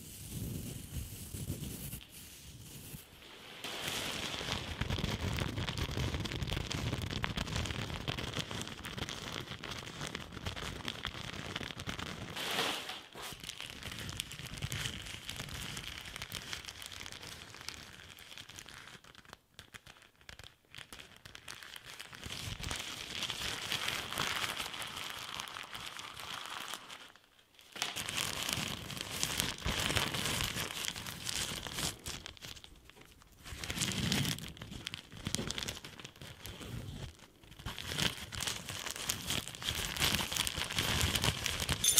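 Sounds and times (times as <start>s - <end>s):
nylon fabric crinkling: 0.2s - 41.9s.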